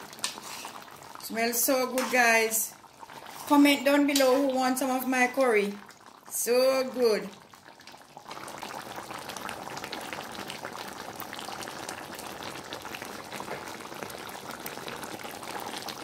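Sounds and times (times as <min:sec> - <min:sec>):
sauce bubbling in a pot: 0:00.0 - 0:16.0.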